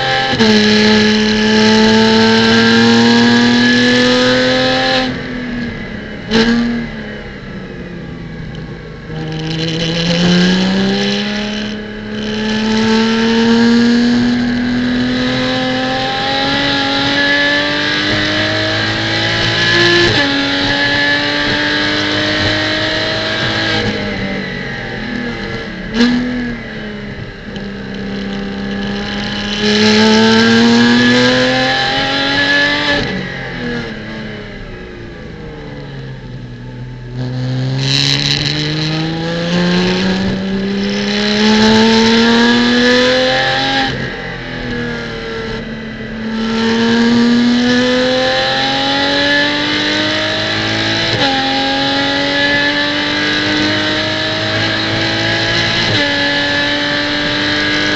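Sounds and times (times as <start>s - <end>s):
race car engine revving: 0.0s - 7.5s, 8.4s - 57.9s.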